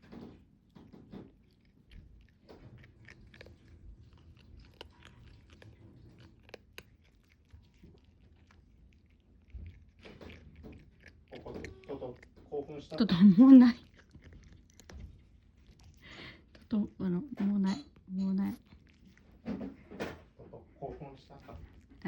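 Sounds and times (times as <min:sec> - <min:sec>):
cat crunching dry treat: 0:00.0 - 0:16.7, 0:17.9 - 0:22.0.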